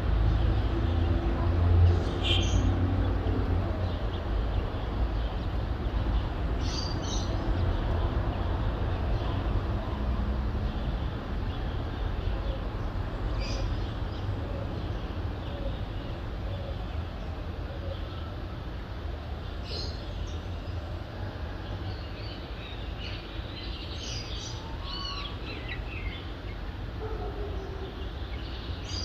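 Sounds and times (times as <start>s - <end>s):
distant city traffic rumble: 0.0s - 29.0s.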